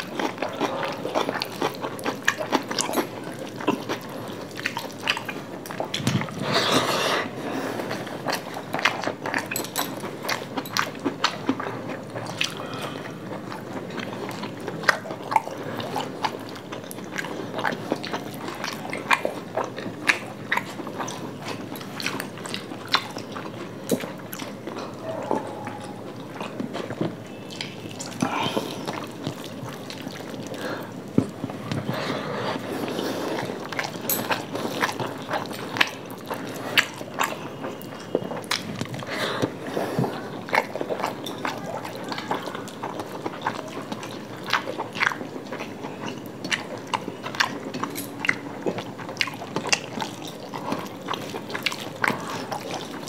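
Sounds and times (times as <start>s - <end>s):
people chewing: 0.0s - 53.0s.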